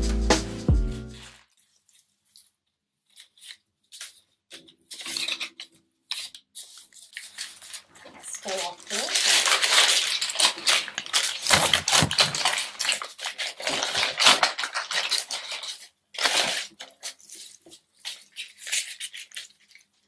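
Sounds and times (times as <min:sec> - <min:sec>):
paper pad rustling and crinkling: 0:00.9 - 0:20.0.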